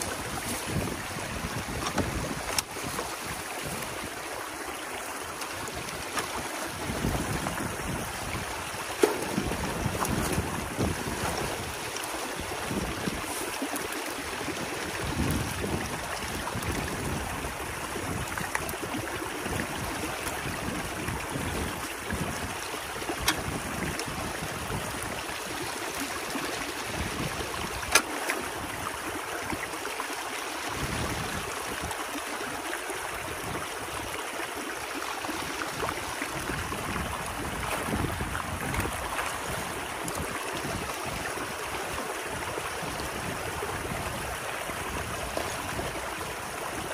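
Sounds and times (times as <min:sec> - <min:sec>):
water rushing and gurgling: 0:00.0 - 0:46.9
wind rumble on microphone: 0:00.0 - 0:46.9.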